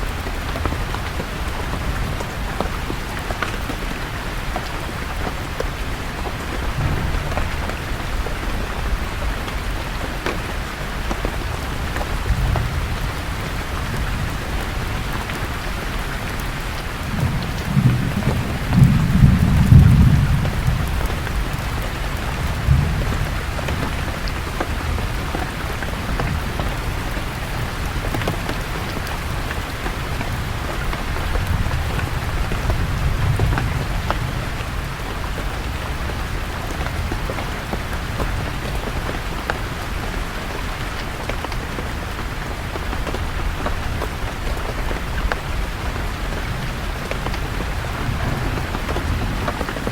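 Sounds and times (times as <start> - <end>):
thunder rumbling: 0.0 - 39.1, 43.4 - 49.9
rain falling on leaves: 0.0 - 49.9
raindrop ticks: 0.0 - 49.9.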